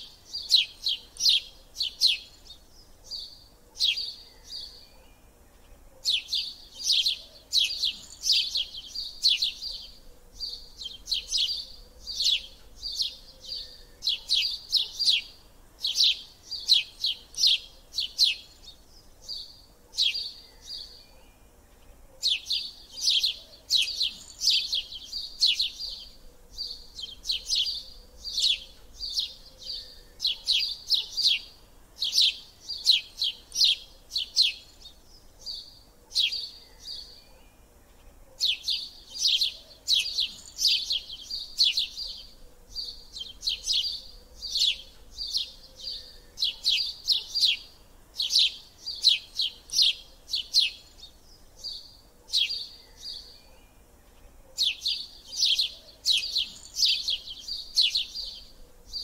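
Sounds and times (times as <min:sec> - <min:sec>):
sparrows chirping: 0:00.0 - 0:59.0.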